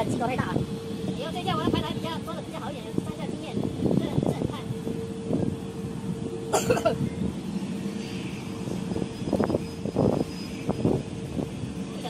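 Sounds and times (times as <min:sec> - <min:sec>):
distant jet engine hum: 0:00.0 - 0:12.0.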